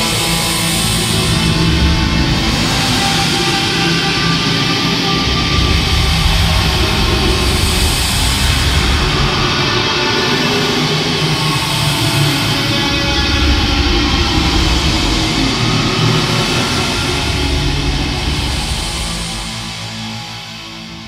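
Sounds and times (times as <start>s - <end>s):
dramatic background music: 0.0s - 21.0s.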